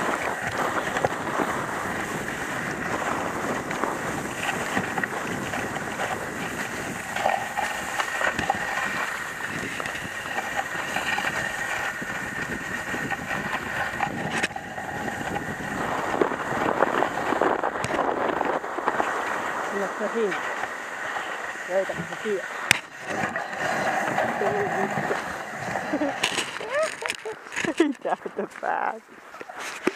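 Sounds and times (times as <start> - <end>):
sled runners hissing on snow: 0.0 - 27.4
small knocks and scrapes: 2.8 - 28.2, 29.4 - 29.9.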